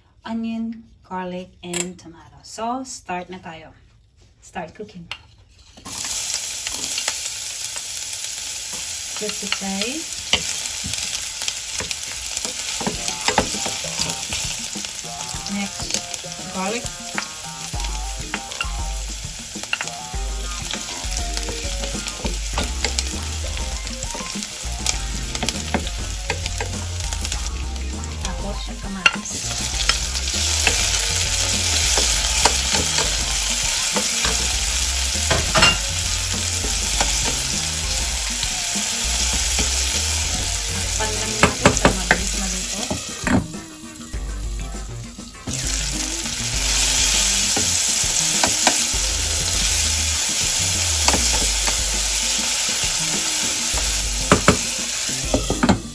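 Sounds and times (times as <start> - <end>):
food sizzling in hot oil: 5.8 - 55.9.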